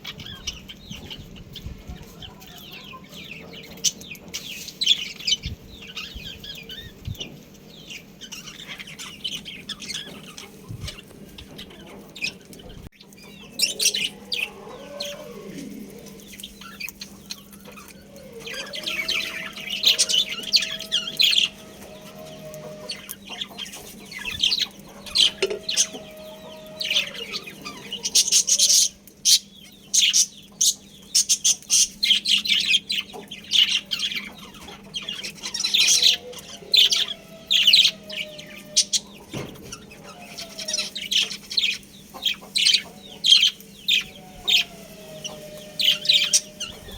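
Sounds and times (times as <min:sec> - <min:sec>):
budgerigars chirping: 0:00.0 - 0:15.5, 0:16.1 - 0:46.9.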